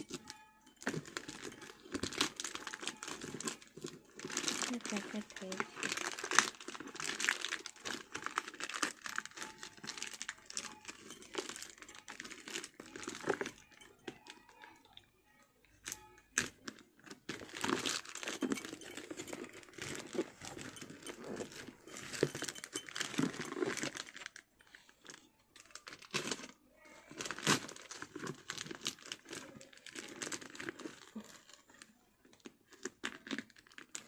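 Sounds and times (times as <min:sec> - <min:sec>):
plastic packaging crinkling and tearing: 0:00.0 - 0:15.0, 0:15.6 - 0:34.0.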